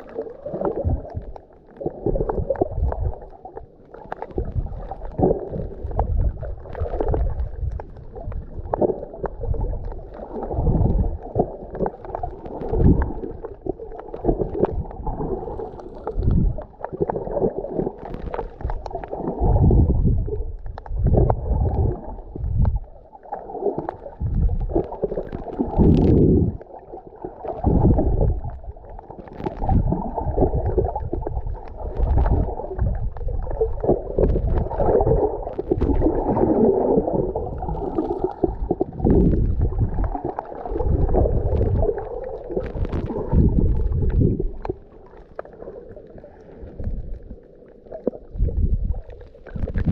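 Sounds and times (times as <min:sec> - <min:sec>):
sea water sloshing and gurgling: 0:00.0 - 0:49.9.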